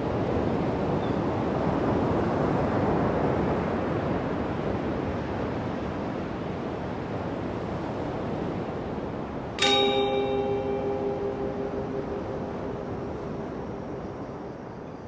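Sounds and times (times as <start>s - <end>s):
ocean waves: 0.0s - 15.0s
wind: 0.0s - 15.0s.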